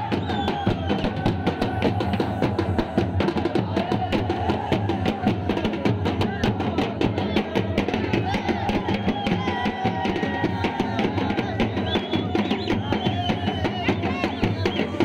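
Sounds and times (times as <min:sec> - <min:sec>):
fast dense drumming: 0:00.0 - 0:15.0.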